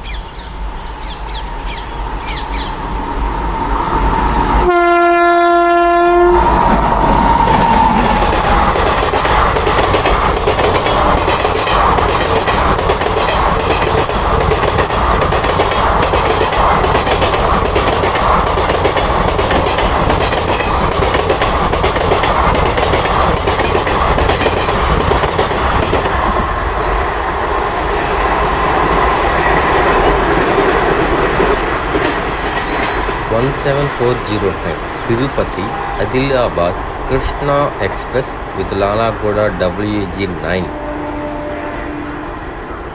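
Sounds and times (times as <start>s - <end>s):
train passing with clickety-clack: 0.7s - 42.9s.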